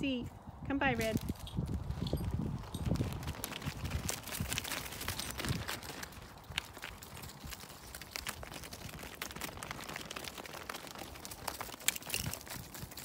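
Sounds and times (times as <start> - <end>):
footsteps crunching on frozen ground: 1.0 - 13.0.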